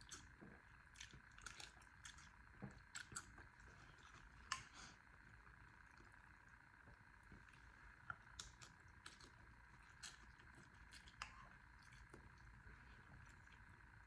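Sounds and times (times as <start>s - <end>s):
chewing and slurping noodles: 0.0s - 14.0s.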